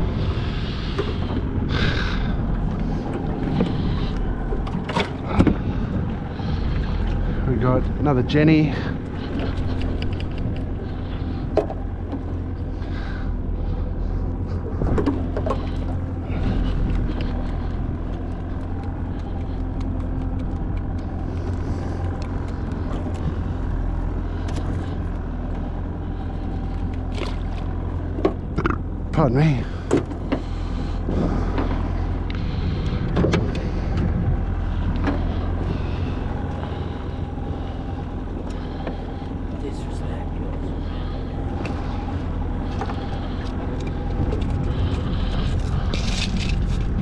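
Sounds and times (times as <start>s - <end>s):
boat motor idling: 0.0s - 47.0s.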